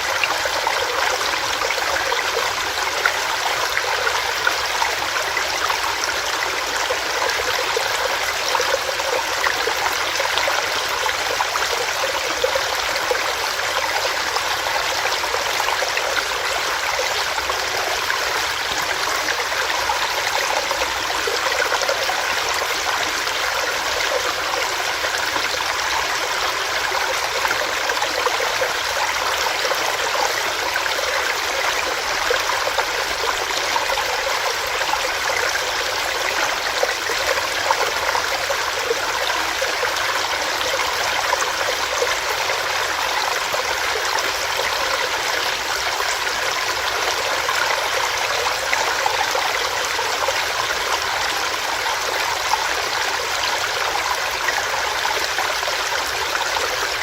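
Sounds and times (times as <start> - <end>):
stream running over stones: 0.0 - 57.0.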